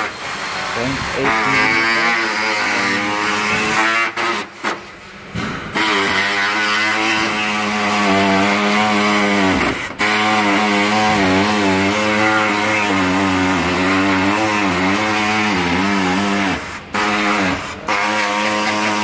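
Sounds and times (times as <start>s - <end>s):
power tool motor running: 0.0s - 4.5s, 5.7s - 19.0s.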